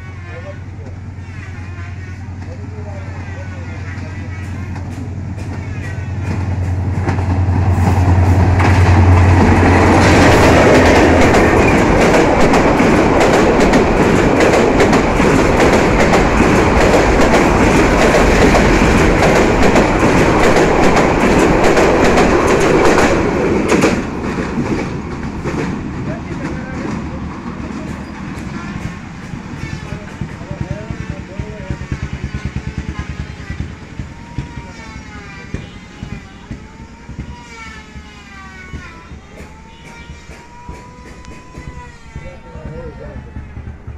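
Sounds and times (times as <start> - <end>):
diesel locomotive engine hum: 0.0 - 43.9
wheels clickety-clack over rail joints: 3.6 - 43.9.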